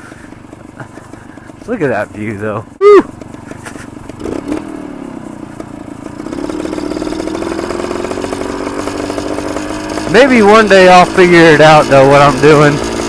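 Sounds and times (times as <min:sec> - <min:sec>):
two-stroke dirt bike engine running: 0:00.0 - 0:13.0.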